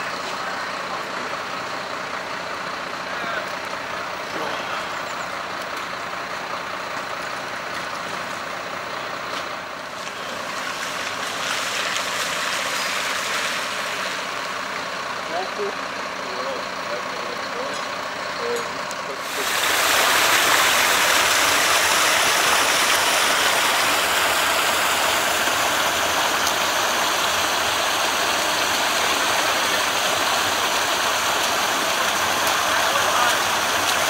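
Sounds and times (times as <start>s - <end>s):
water rushing from burst main: 0.0s - 18.4s, 19.1s - 34.0s.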